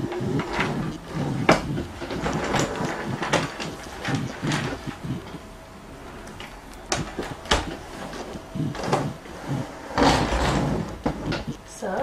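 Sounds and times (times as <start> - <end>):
drawer clacks: 0.0 - 5.4, 6.4 - 11.5
drawer rolling and knocking: 0.0 - 5.5, 6.2 - 11.5.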